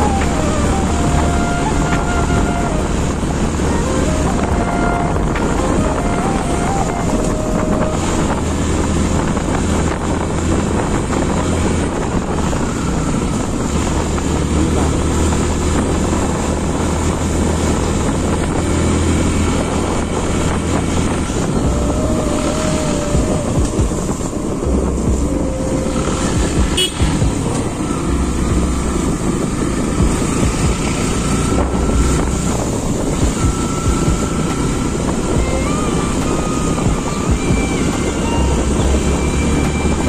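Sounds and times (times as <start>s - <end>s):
motorcycle engine running: 0.0s - 40.0s
wind on microphone: 0.0s - 40.0s.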